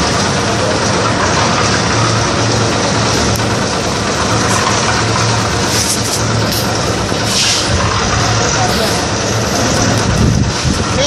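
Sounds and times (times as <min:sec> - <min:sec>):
concrete mixer engine throbbing: 0:00.0 - 0:11.0.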